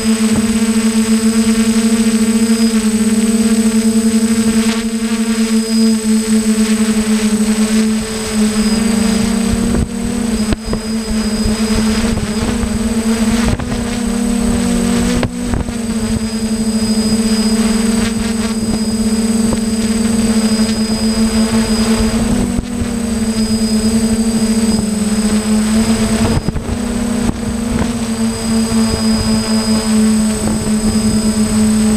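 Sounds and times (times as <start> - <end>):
drone motors and propellers buzzing: 0.0 - 31.9.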